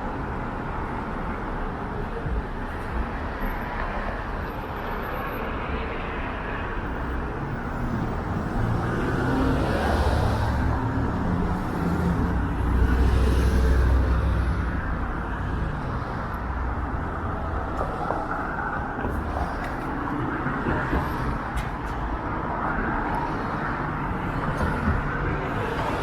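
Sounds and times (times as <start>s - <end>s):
cars passing on road: 0.0s - 26.0s.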